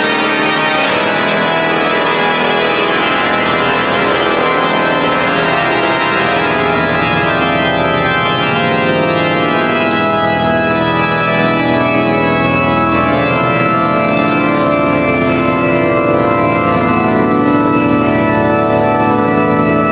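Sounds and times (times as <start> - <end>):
pipe organ playing chords: 0.0 - 19.9.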